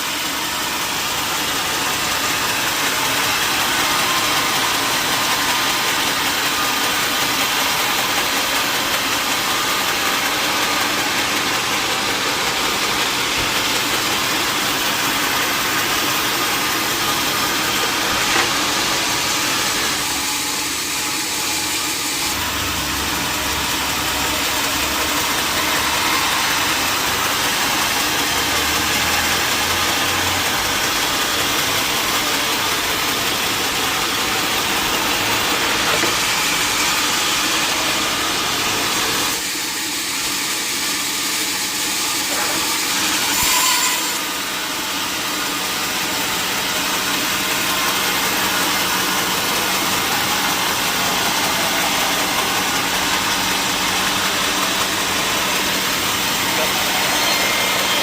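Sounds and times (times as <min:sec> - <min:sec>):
sawmill saw cutting wood: 0:00.0 - 0:58.0.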